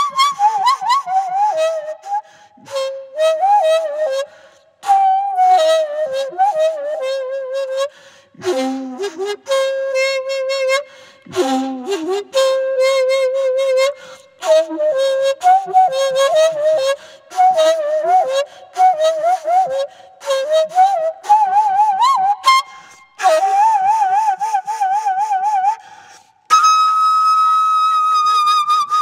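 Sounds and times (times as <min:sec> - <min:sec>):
bamboo flute melody: 0:00.0 - 0:29.0.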